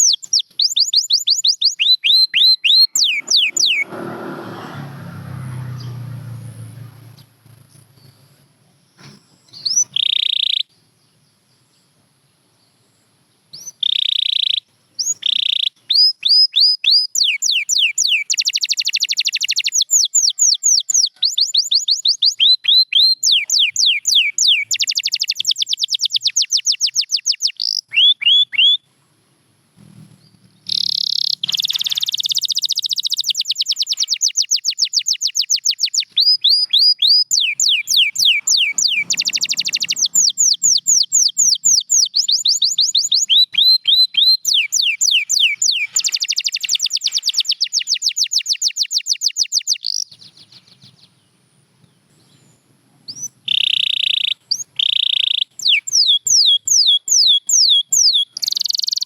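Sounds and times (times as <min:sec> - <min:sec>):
canary singing: 0:00.0 - 0:08.4, 0:09.0 - 0:10.8, 0:13.5 - 0:28.9, 0:29.8 - 0:51.2, 0:53.1 - 0:59.0.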